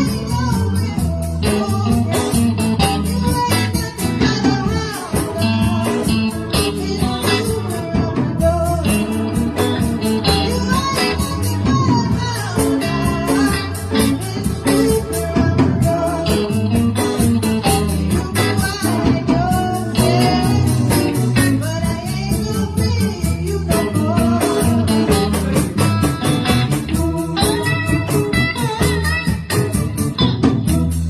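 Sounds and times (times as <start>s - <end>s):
bass: 0.0s - 31.0s
electric guitar: 0.0s - 31.0s
melodic lead line: 0.0s - 31.0s.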